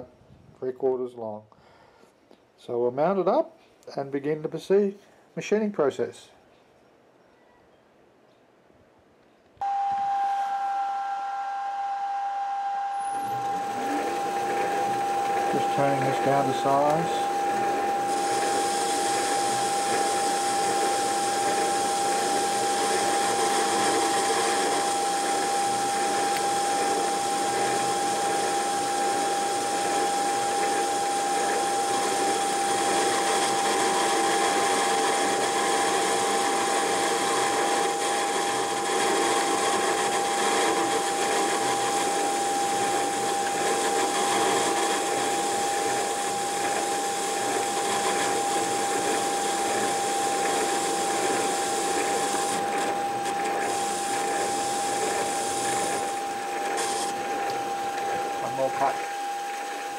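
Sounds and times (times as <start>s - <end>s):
metal lathe whining: 9.6s - 59.9s.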